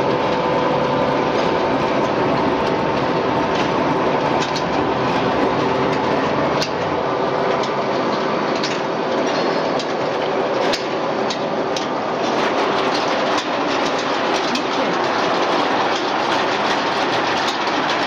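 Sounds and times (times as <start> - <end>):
conveyor machinery din: 0.0 - 18.0.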